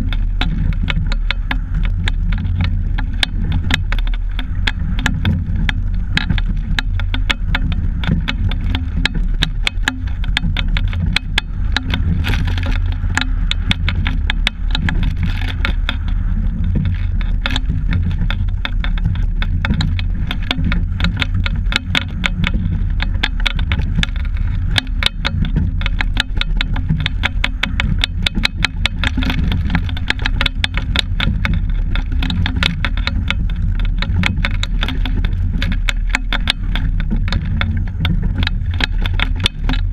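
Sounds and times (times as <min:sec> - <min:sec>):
boat hardware rattling and clicking: 0:00.0 - 0:39.9
wind buffeting microphone: 0:00.0 - 0:39.9.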